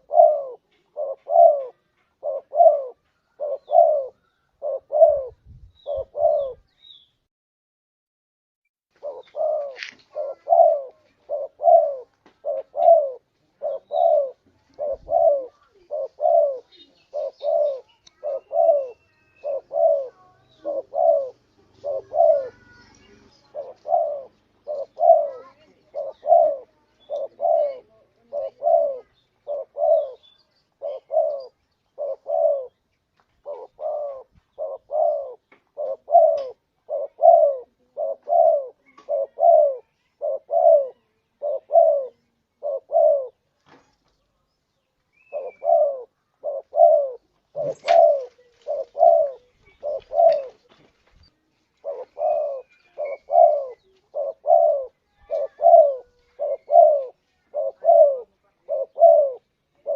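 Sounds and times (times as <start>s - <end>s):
dove cooing: 0.0s - 6.7s, 9.0s - 32.8s, 33.4s - 43.5s, 45.2s - 50.8s, 51.7s - 59.9s.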